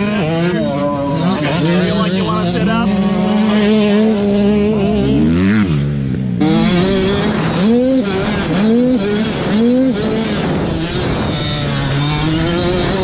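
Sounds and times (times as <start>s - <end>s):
motocross bike engines: 0.0s - 13.0s.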